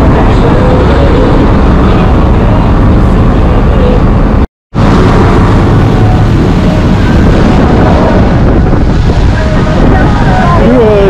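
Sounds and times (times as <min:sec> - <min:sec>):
boat engine: 0:00.0 - 0:11.0
wind buffeting microphone: 0:00.0 - 0:11.0.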